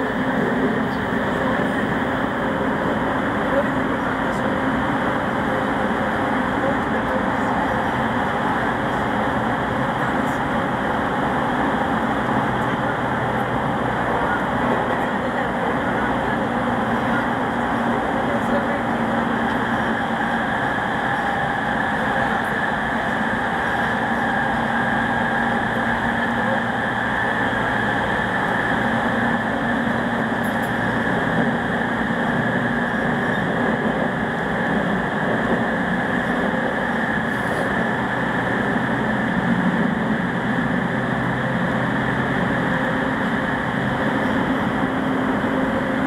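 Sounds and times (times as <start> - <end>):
wheel and rail rumble: 0.0 - 46.0.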